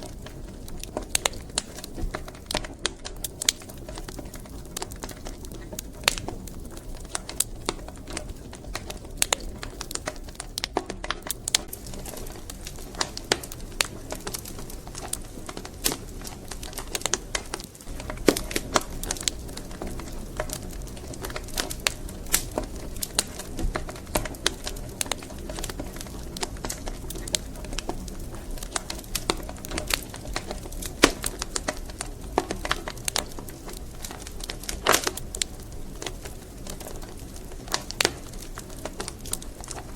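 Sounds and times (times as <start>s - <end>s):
low hiss of burning logs: 0.0s - 39.9s
wood fire crackling and popping: 0.0s - 39.9s.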